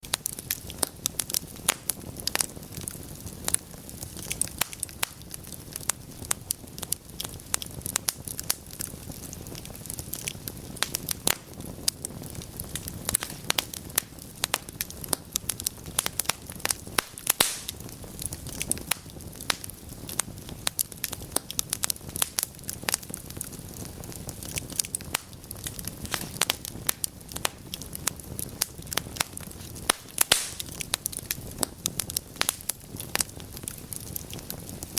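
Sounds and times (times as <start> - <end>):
flames rushing: 0.0 - 34.9
logs crackling and popping: 0.0 - 34.9.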